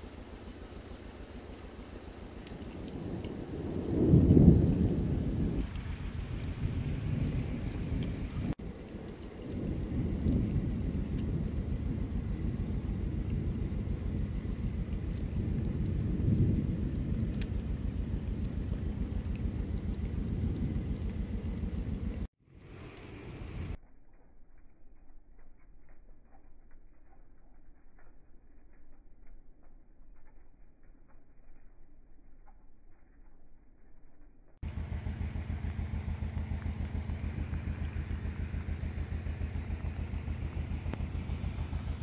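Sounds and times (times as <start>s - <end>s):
deep low rumble: 0.0s - 22.3s, 23.5s - 42.0s
rain dripping off rock: 0.0s - 33.4s, 34.6s - 42.0s.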